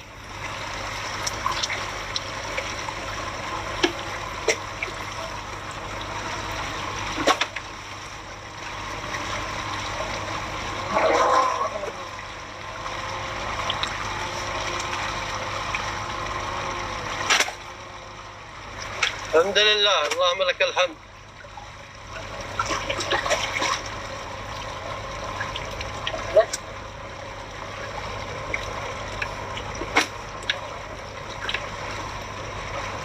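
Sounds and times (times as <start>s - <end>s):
water running and splashing: 0.0s - 33.0s.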